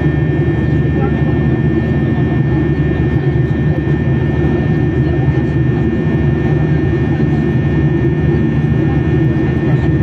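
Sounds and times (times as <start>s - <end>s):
jet engines and rushing airflow: 0.0s - 10.0s.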